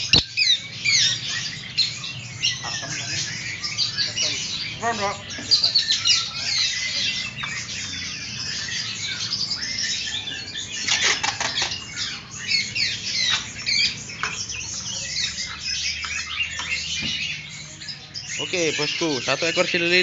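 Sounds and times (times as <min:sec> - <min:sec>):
songbirds chirping and whistling: 0:00.0 - 0:20.0.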